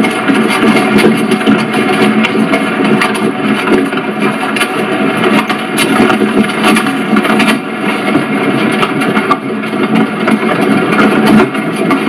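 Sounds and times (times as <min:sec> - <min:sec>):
carriage rattle and clatter: 0:00.0 - 0:12.0.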